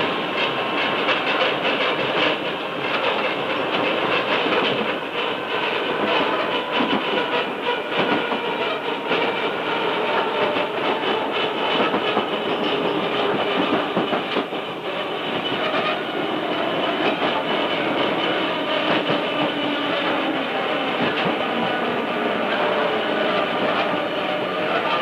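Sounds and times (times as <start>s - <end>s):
train wheels knocking on rails: 0.0s - 25.0s.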